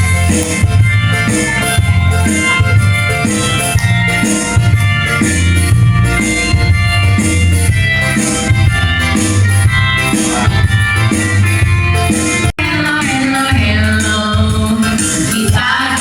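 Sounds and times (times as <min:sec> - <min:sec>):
instrumental music with bass beat: 0:00.0 - 0:16.0.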